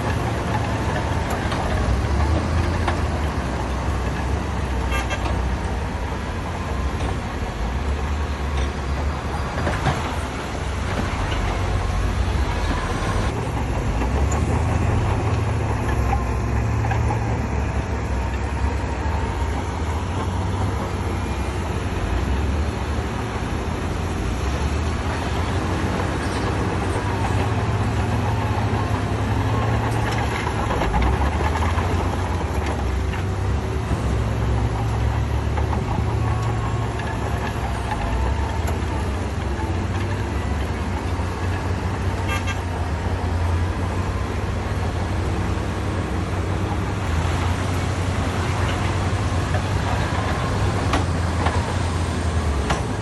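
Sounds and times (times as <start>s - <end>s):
heavy machinery diesel engines: 0.0s - 53.0s.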